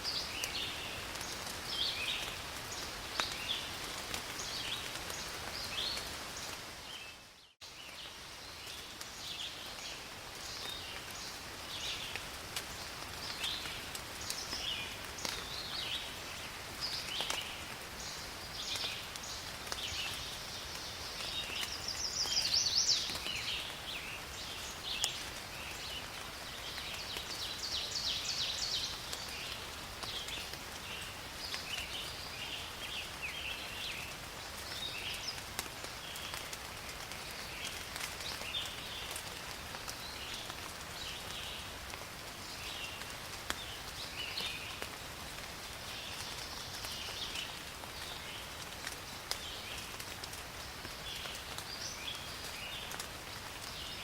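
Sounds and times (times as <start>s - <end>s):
rain falling in forest: 0.0s - 54.0s.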